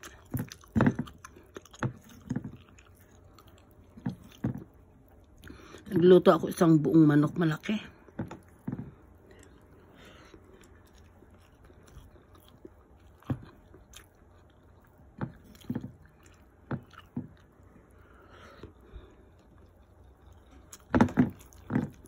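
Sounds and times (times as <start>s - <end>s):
person chewing food: 0.0s - 5.9s, 8.0s - 22.0s.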